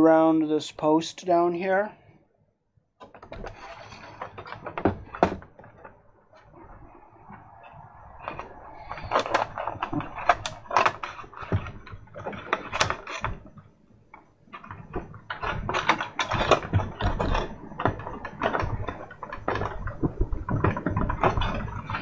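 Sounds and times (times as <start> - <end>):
hands handling wire and parts: 3.0 - 22.0.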